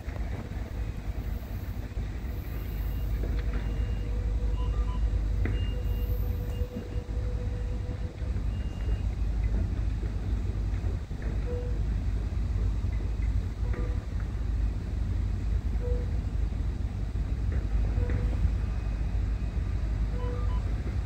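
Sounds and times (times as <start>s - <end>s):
train rumbling into station: 0.0s - 21.0s.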